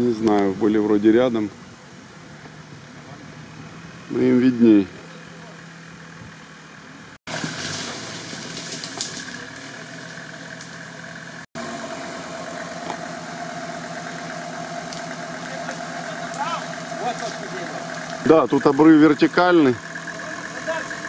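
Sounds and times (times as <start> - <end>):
vehicle engine running at low revs: 0.0 - 21.0.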